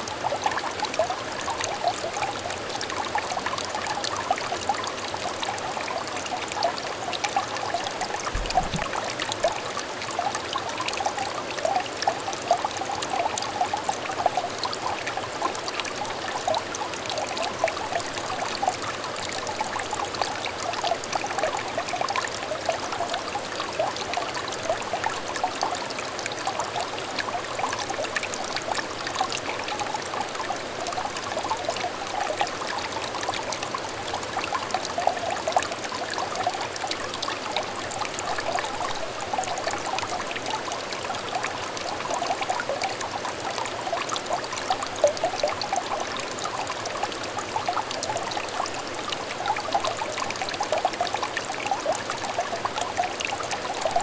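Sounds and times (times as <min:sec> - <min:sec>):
stream babbling: 0:00.3 - 0:54.0.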